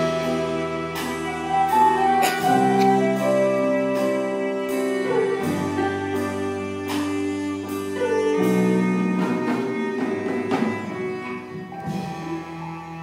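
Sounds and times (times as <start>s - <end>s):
live band playing slow chords: 0.0s - 13.0s.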